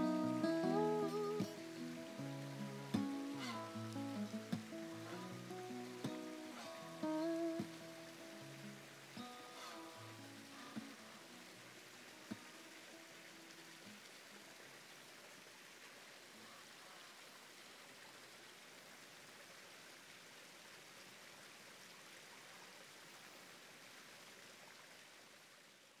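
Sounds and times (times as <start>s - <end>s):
creek running over rocks: 0.0s - 26.0s.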